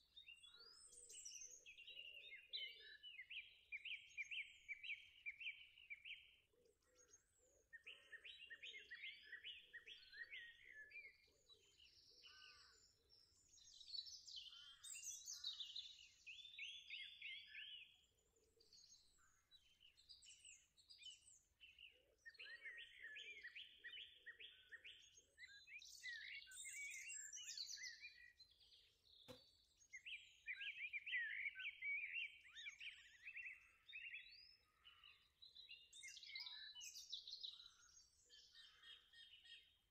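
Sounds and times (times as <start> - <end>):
faint birdsong trills: 0.0 - 39.9.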